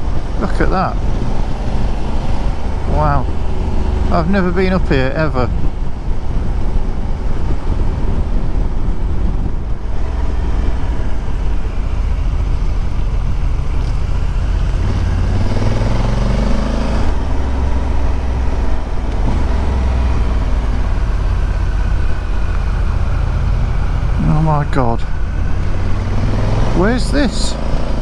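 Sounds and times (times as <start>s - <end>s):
wind noise on microphone: 0.0s - 4.1s, 4.7s - 24.2s
motorcycle engine running: 0.0s - 28.0s.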